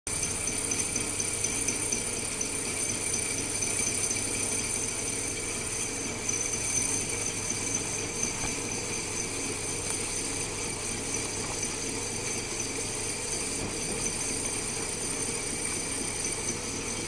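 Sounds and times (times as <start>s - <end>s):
metal lathe humming: 0.1s - 17.0s.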